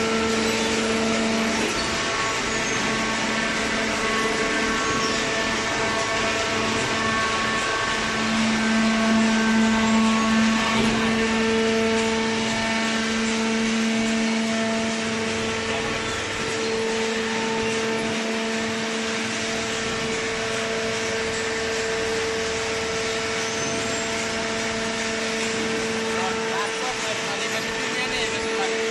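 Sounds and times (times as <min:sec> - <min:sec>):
machine motor humming and whining: 0:00.0 - 0:28.9.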